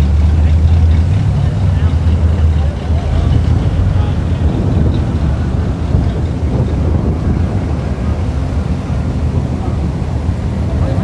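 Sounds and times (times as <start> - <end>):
cars passing slowly: 0.0 - 11.0
wind buffeting microphone: 2.0 - 11.0.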